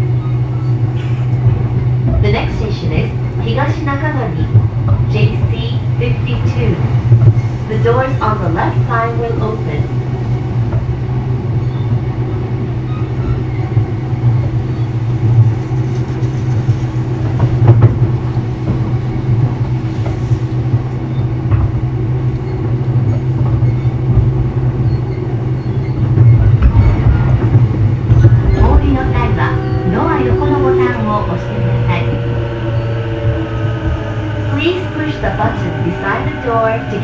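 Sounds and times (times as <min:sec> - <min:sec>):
rail-joint clacks: 0:00.0 - 0:37.0
wheels rumbling on rail: 0:00.0 - 0:37.0.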